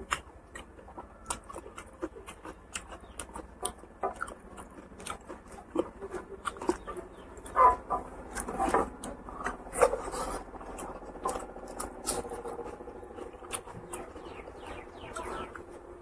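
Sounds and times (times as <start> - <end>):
wet chewing and smacking: 0.0 - 15.9.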